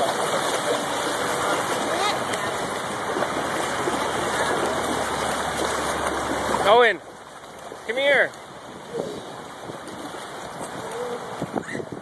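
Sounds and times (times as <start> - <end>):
water rushing into a pool: 0.0 - 12.0.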